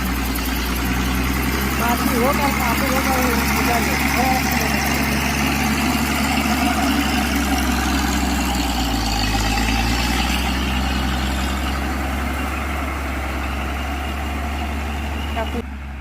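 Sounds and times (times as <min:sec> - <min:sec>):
heavy machine engine running: 0:00.0 - 0:16.0.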